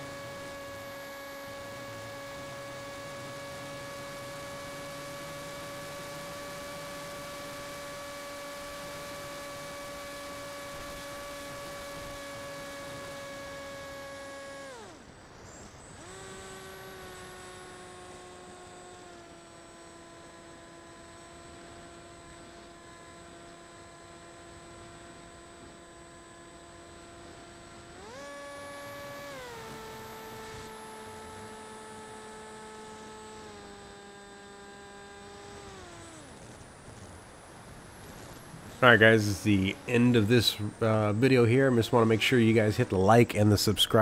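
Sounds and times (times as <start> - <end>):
electric motor and propeller whining: 0.0 - 44.0.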